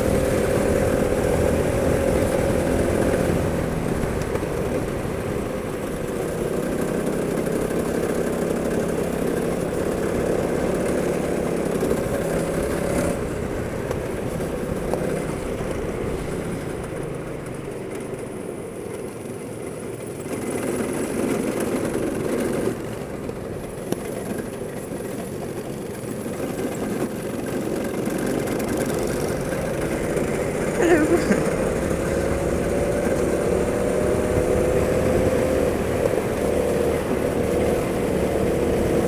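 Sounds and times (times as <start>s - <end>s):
go-kart engine revving: 0.0s - 39.0s.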